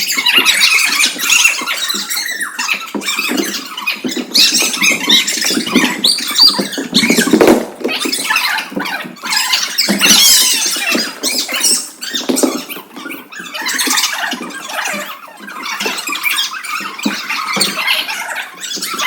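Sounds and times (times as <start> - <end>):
children squealing and calling out: 0.0 - 19.0.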